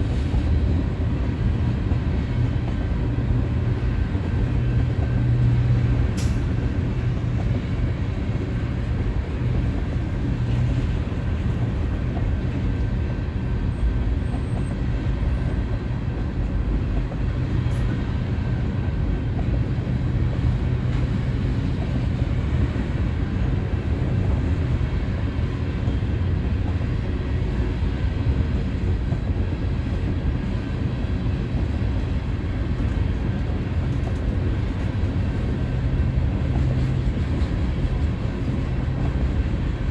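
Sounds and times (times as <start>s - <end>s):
train rumbling past: 0.0s - 39.9s.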